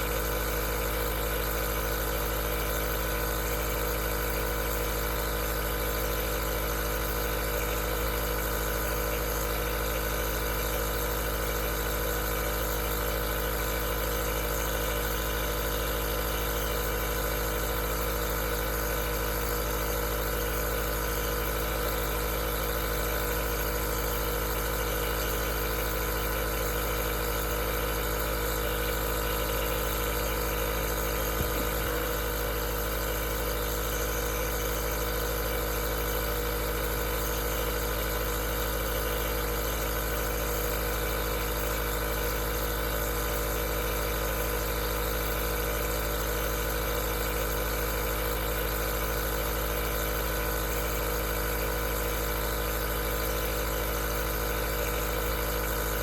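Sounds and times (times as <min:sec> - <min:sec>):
compressor motor hum: 0:00.0 - 0:56.0.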